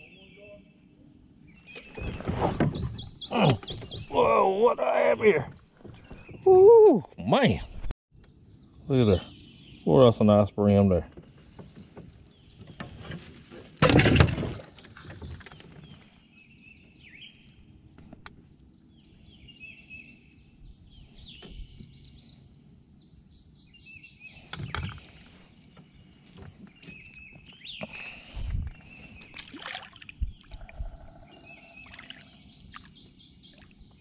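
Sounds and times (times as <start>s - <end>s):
small birds chirping: 0.0s - 6.6s, 7.2s - 13.5s, 14.6s - 34.0s.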